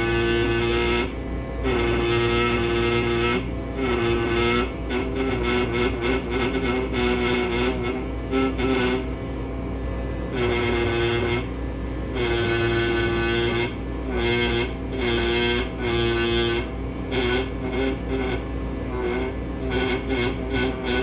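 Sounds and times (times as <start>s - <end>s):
pneumatic air scribe buzzing: 0.0s - 9.5s, 10.2s - 21.0s
steady low hum: 0.0s - 21.0s.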